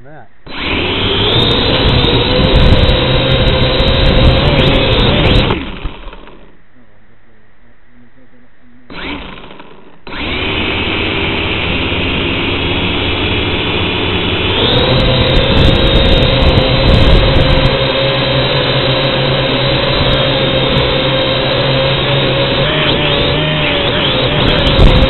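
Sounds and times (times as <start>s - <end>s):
drone motors whining: 0.4s - 25.0s.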